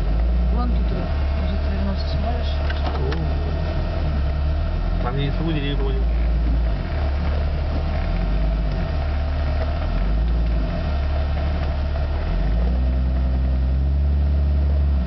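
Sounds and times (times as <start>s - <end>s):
car engine at low revs: 0.0s - 15.0s.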